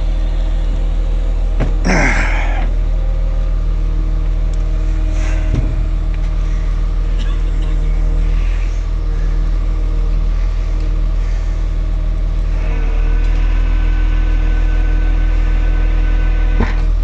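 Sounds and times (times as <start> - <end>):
engine humming: 0.0 - 17.0
high steady whine: 0.0 - 17.0.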